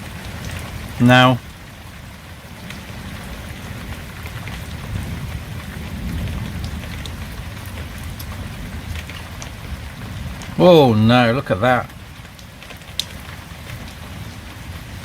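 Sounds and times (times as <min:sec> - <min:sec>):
heavy rain falling: 0:00.0 - 0:15.0
rain drop ticks: 0:00.0 - 0:15.0.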